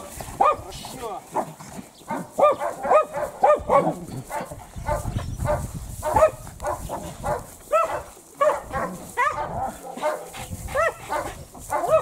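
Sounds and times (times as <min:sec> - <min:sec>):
dog barking: 0:00.4 - 0:00.7, 0:02.1 - 0:12.0.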